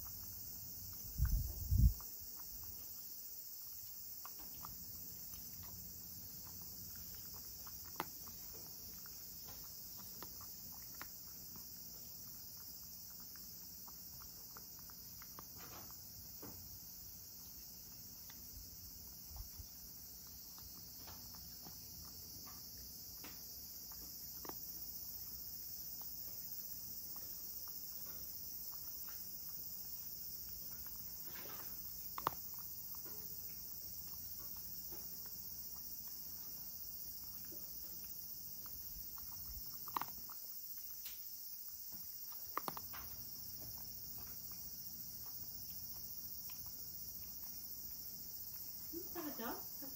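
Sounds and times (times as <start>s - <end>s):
steady high-pitched hiss: 0.0s - 49.9s
cat crunching dry kibble: 0.1s - 48.9s.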